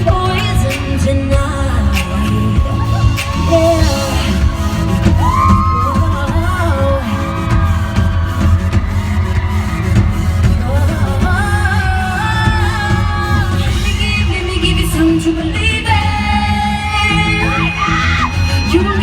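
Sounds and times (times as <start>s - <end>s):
woman singing: 0.0s - 8.2s, 10.4s - 19.0s
bass-driven pop backing track: 0.0s - 19.0s.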